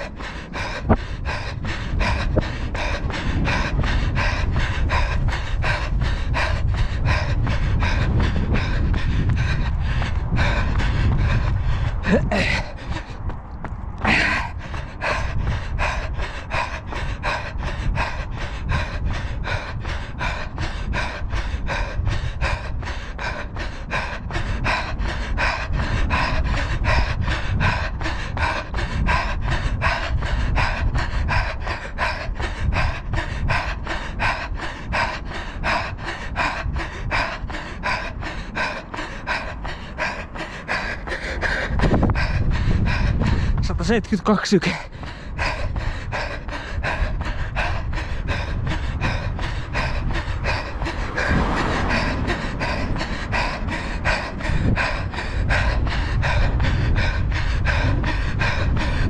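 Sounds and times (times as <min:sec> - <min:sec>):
runner panting: 0:00.0 - 0:59.0
wind rumble on microphone: 0:00.0 - 0:59.0.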